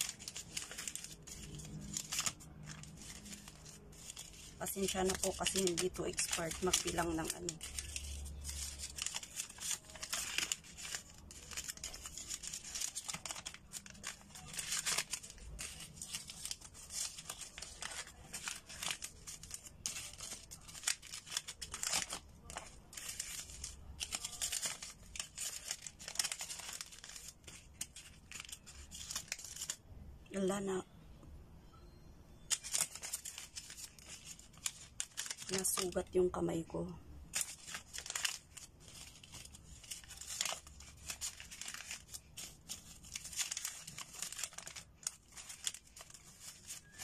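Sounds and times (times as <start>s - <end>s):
paper banknotes crinkling: 0.0s - 29.8s, 32.5s - 36.5s, 37.2s - 47.0s.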